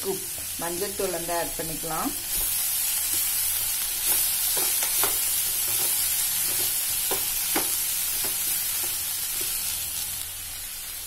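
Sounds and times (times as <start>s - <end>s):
beans sizzling in oil: 0.0s - 11.0s.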